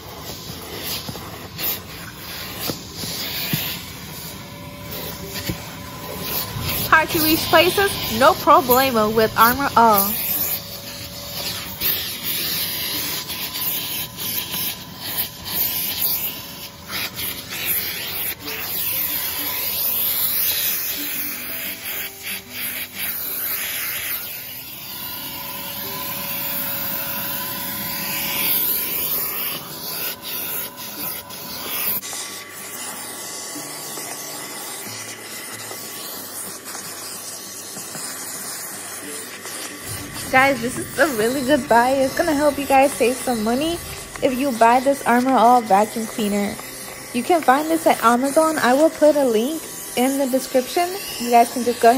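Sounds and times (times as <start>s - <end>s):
nozzle rubbing over carpet: 0.0s - 32.8s, 39.5s - 51.9s
handheld vacuum running: 0.0s - 51.9s.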